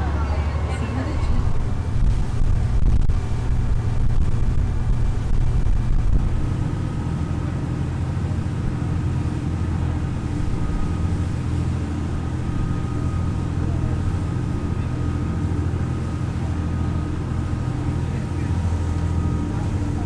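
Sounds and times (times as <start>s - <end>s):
faint high whine: 0.0s - 20.0s
large engine droning: 0.0s - 20.0s.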